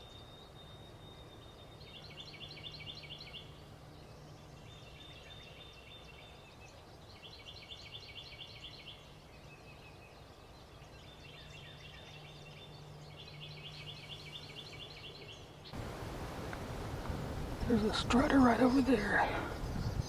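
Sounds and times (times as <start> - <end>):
low steady background hum: 0.0 - 20.0
songbirds trilling: 0.0 - 20.0.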